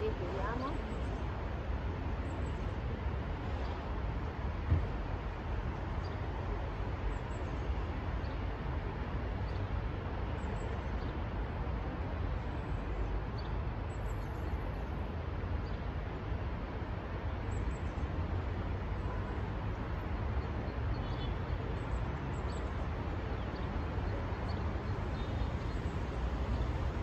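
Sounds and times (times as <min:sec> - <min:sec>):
distant city traffic rumble: 0:00.0 - 0:27.0.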